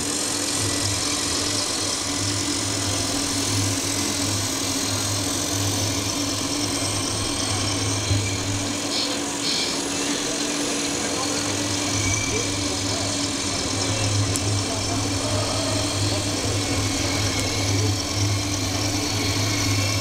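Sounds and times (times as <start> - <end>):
busy exhibition hall noise: 0.0 - 20.0
steady engine-like hum: 0.0 - 20.0
toy fire engine motor whirring: 0.0 - 20.0.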